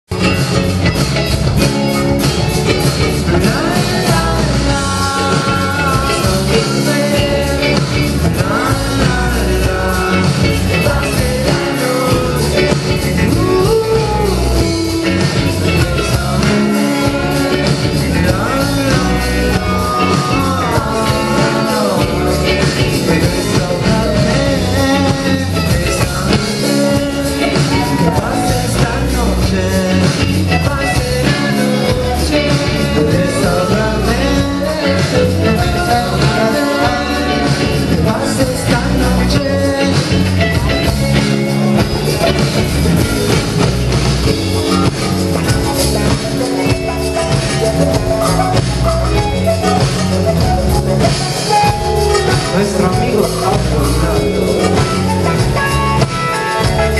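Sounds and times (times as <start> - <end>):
rock band playing live: 0.0 - 56.9
person singing: 0.1 - 56.9.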